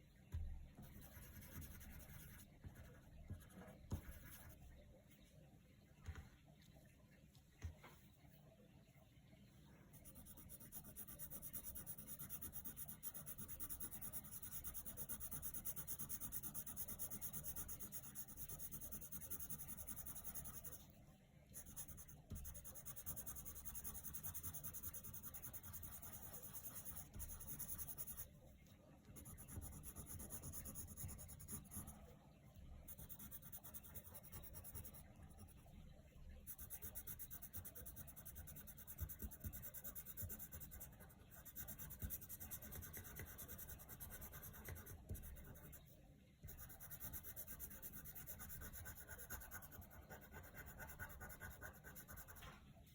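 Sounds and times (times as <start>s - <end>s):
pencil scratching on paper: 0.8s - 4.6s, 9.9s - 20.9s, 21.6s - 28.3s, 29.1s - 32.1s, 32.8s - 35.6s, 36.4s - 45.8s, 46.5s - 52.5s.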